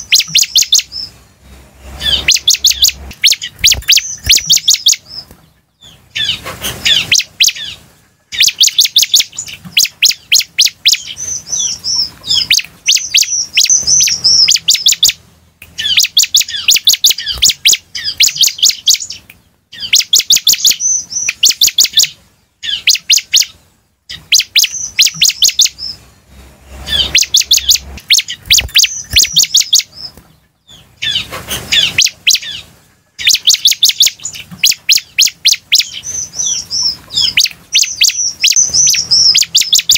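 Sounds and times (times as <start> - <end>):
bird chattering song: 0.0 - 1.2, 1.9 - 26.1, 26.7 - 39.9.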